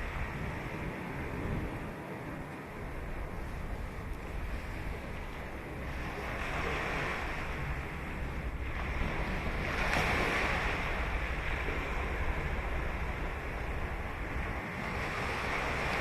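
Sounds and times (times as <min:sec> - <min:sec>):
ocean surf breaking: 0:00.0 - 0:16.0
wind rumble on microphone: 0:00.0 - 0:16.0.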